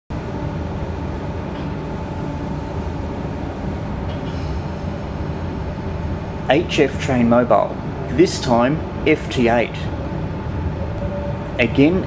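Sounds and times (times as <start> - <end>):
faint steady tones: 0.1 - 12.0
train running rumble: 0.1 - 12.0.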